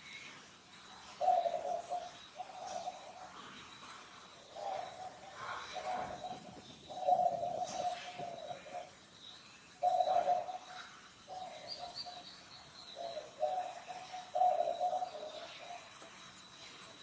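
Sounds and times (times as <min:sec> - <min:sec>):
bird low calls: 0:00.0 - 0:17.0
faint high whine: 0:00.0 - 0:17.0.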